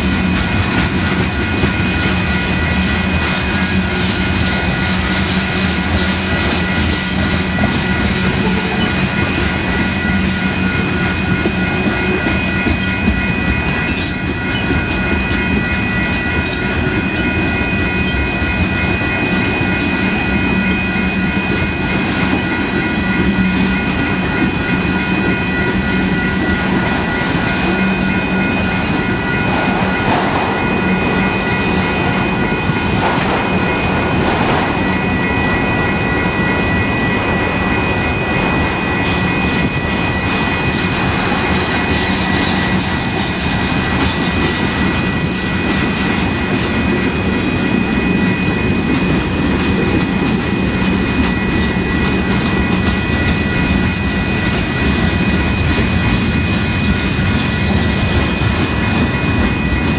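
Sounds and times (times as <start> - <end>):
steel wheels clattering on rails: 0.0 - 59.9.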